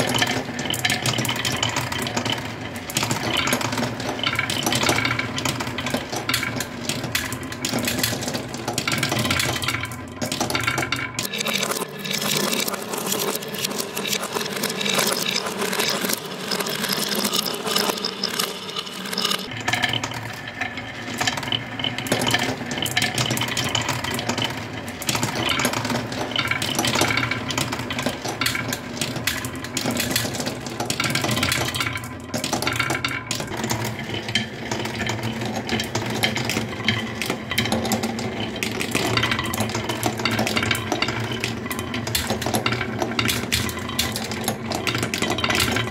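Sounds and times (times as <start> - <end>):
marbles clicking: 0.0 - 45.9
marbles rolling on wooden track: 0.0 - 45.9.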